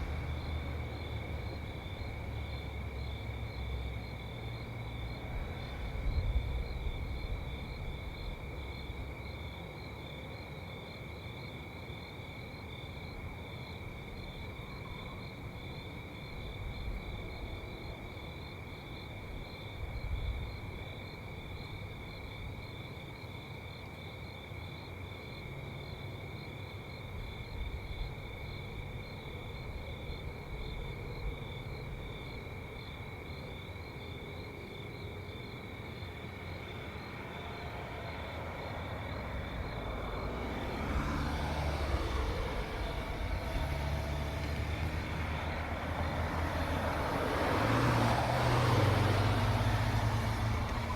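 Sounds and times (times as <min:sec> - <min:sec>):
distant car traffic rumble: 0:00.0 - 0:50.9
insects chirring: 0:00.0 - 0:50.9.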